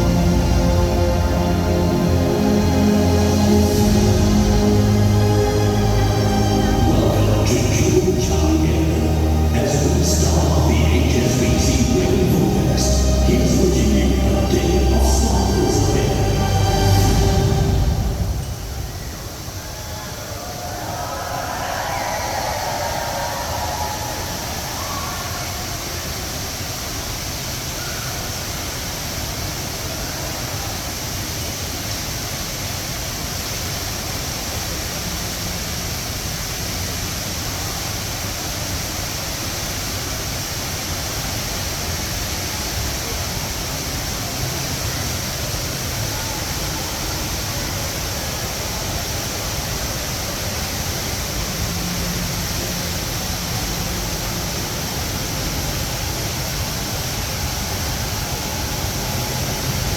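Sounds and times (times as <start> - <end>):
indoor waterfall rushing: 0.0 - 59.9.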